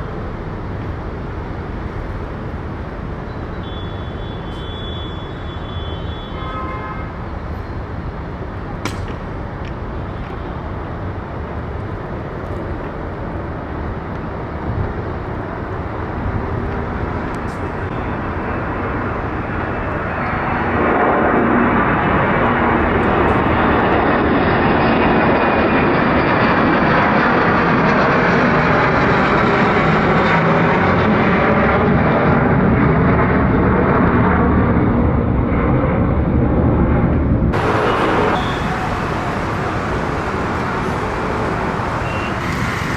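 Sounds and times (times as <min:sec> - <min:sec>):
jet engines rushing: 0:00.0 - 0:42.9.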